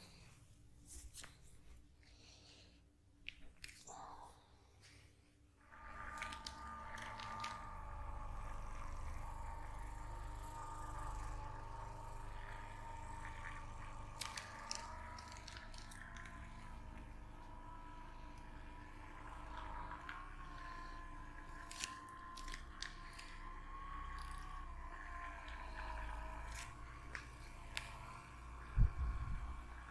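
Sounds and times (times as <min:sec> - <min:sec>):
steady hum: 0:03.8 - 0:29.9.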